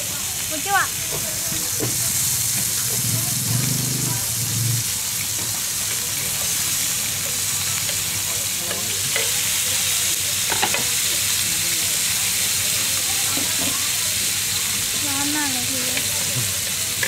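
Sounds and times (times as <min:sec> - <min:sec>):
squid sizzling on a griddle: 0:00.0 - 0:17.0.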